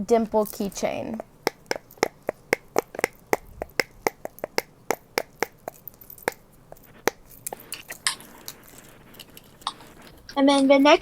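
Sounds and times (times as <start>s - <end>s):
silicone fidget toy popping: 0.2s - 10.4s.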